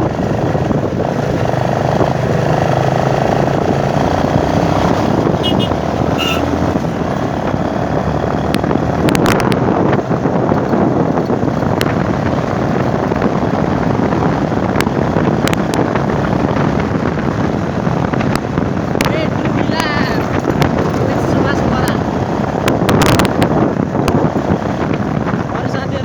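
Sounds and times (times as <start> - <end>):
motorcycle engine and road noise: 0.0 - 26.0.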